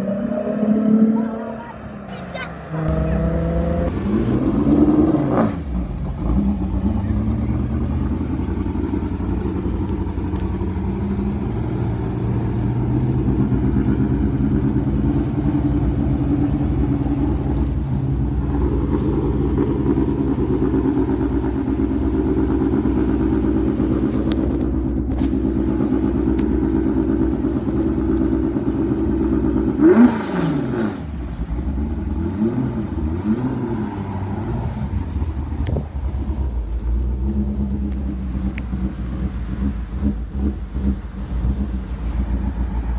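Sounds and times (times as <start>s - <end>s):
race car engine idling and revving: 0.0s - 42.9s.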